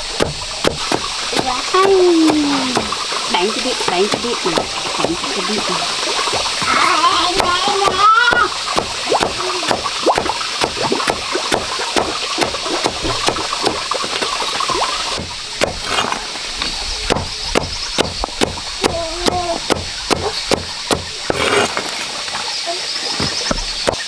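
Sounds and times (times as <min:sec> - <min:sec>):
blade chopping plants: 0:00.0 - 0:22.4, 0:23.2 - 0:24.0.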